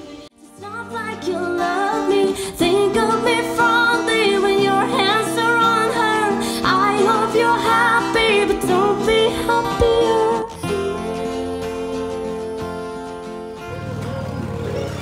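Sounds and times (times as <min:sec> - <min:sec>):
person singing: 0:00.0 - 0:15.0
instrumental backing with bass: 0:02.4 - 0:15.0.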